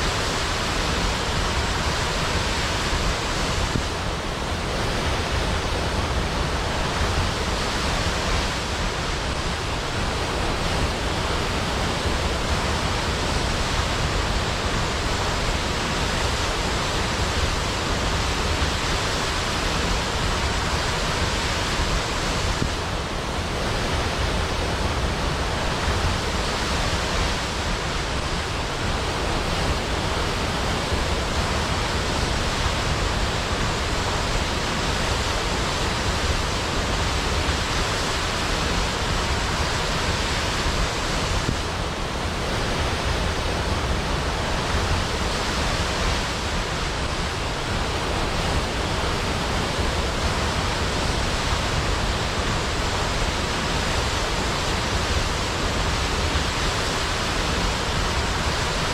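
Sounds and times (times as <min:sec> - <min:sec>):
waterfall rushing into pool: 0:00.0 - 0:58.9.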